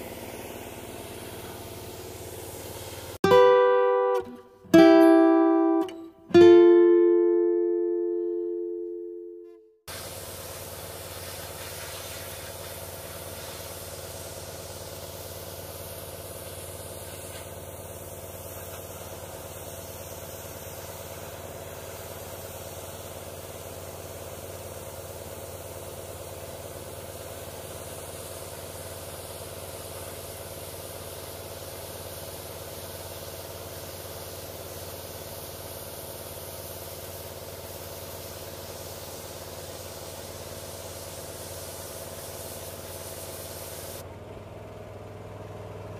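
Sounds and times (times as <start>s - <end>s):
water jet hissing on steel: 0.0s - 3.2s, 9.9s - 44.0s
pressure washer engine drone: 0.0s - 4.2s, 9.9s - 45.9s.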